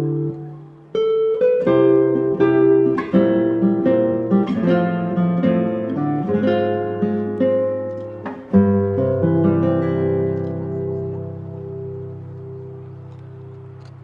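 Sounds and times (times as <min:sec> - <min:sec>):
acoustic guitar picking melody: 0:00.0 - 0:14.0.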